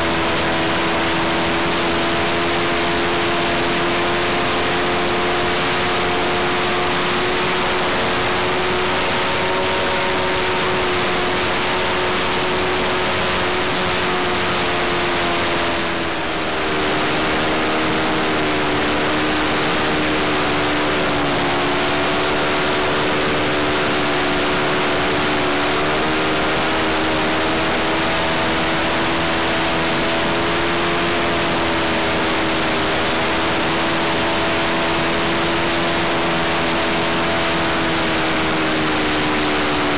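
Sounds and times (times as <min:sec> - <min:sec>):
model aircraft engine running: 0:00.0 - 0:39.9.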